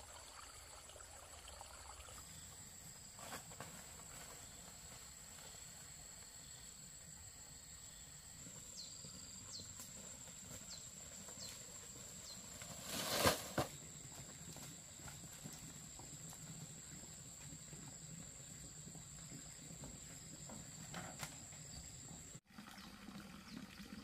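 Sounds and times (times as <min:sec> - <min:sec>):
insects droning: 0:00.0 - 0:22.4
rustle: 0:02.1 - 0:22.4.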